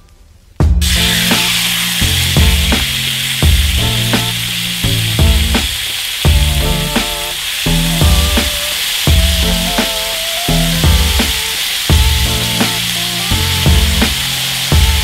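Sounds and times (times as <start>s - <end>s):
lo-fi music with beat and bass: 0.6s - 15.0s
chicken sizzling in a skillet: 0.8s - 15.0s.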